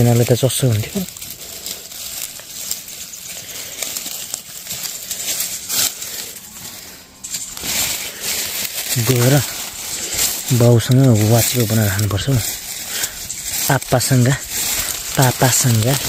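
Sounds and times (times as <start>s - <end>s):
leaves and stems rustling: 0.0s - 16.0s.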